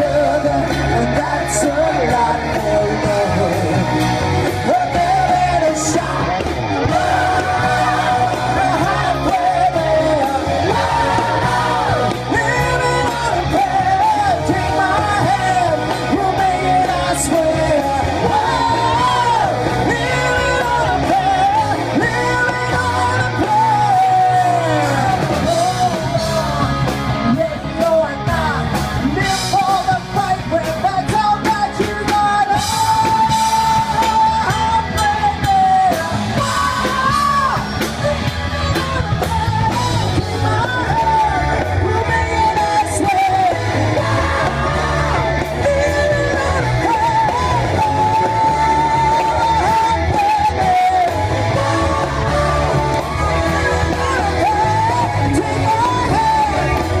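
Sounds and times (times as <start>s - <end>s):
lead singer singing: 0.0s - 57.0s
rock band playing: 0.0s - 57.0s.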